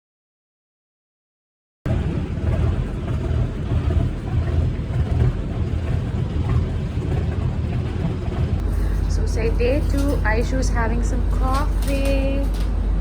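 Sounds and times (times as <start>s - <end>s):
boat engine rumbling: 1.9s - 13.0s.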